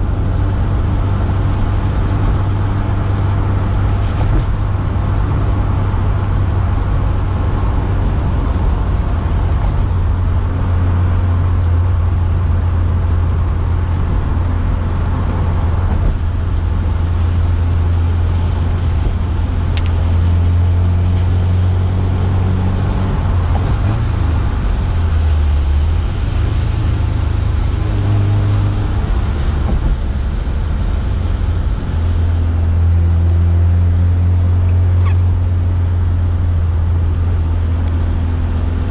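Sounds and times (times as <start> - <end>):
car engine drone from inside cabin: 0.0 - 38.9.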